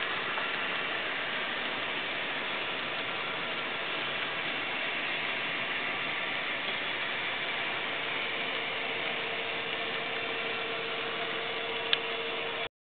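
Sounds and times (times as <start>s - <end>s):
steady hum: 0.0s - 12.7s.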